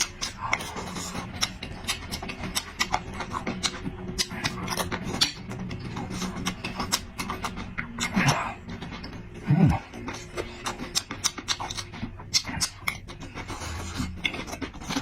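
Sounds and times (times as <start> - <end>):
chewing and lip-smacking: 0.0 - 15.0
steady low hum: 0.0 - 15.0.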